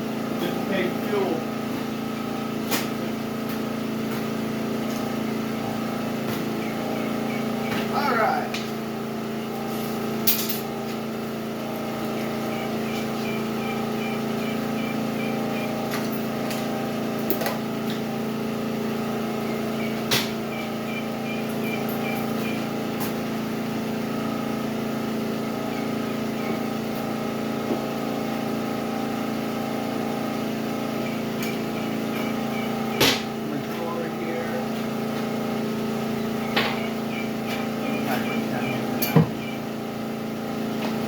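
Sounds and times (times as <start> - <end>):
generator engine running: 0.0 - 41.0.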